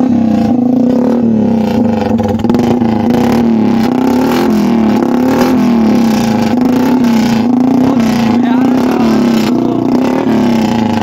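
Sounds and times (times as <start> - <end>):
motorcycle exhaust drone through horn: 0.0 - 11.0.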